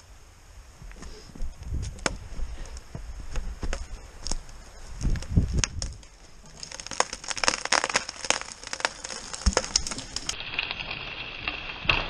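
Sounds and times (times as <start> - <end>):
wood crackling and snapping: 0.9 - 12.0.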